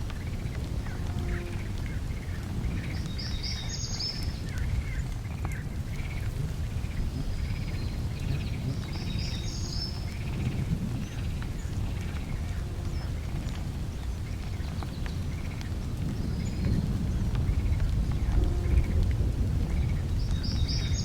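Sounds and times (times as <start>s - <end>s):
steady low rumble: 0.0s - 21.0s
higher bird song: 0.2s - 19.0s, 19.7s - 21.0s.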